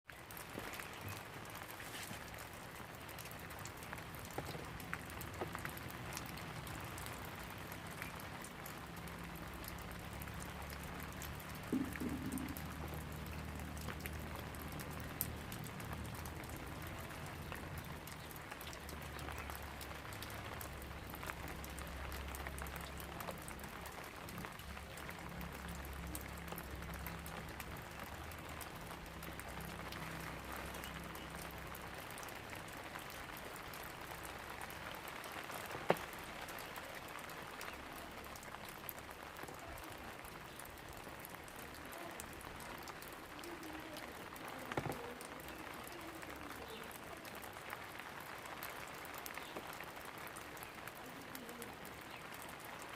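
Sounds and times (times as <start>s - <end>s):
steady rainfall: 0.0s - 52.9s
drops ticking on a surface: 0.1s - 47.9s.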